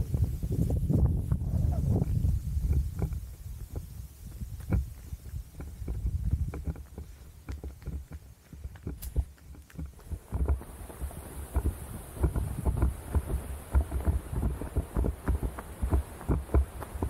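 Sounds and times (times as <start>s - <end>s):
low microphone rumble: 0.0s - 17.0s
running footsteps on path: 0.0s - 17.0s.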